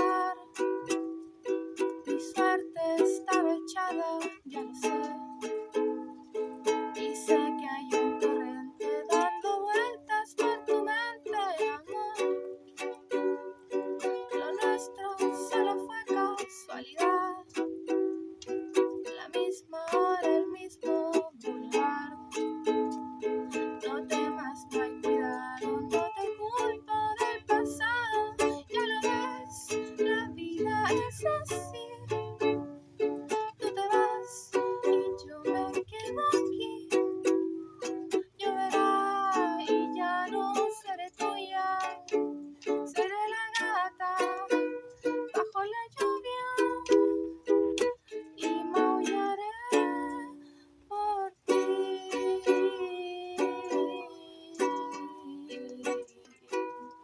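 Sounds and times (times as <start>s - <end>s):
person singing: 0.0s - 57.0s
ukulele strumming: 0.0s - 57.0s.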